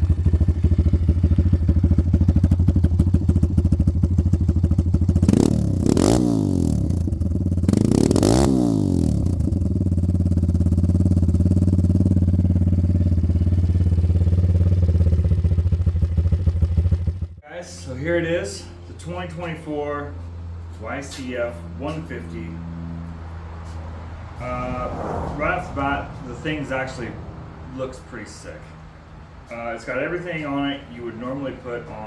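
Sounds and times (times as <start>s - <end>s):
motorbike engine idling and revving: 0.0s - 32.0s.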